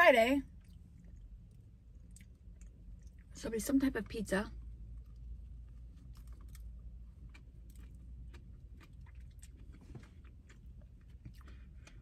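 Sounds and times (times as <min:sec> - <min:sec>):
low steady hum: 0:00.0 - 0:12.0
person chewing: 0:00.5 - 0:03.3, 0:05.0 - 0:12.0.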